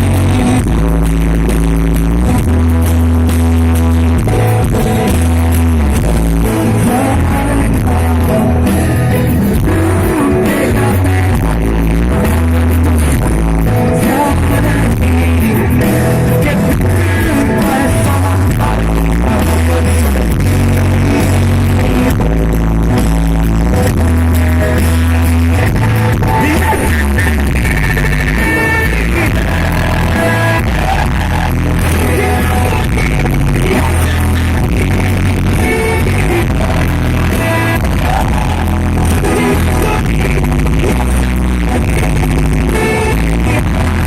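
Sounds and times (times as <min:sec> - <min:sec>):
heavy bass notes: 0:00.0 - 0:44.0
rock band playing loudly: 0:00.0 - 0:44.0
person singing: 0:05.8 - 0:22.6, 0:23.6 - 0:44.0.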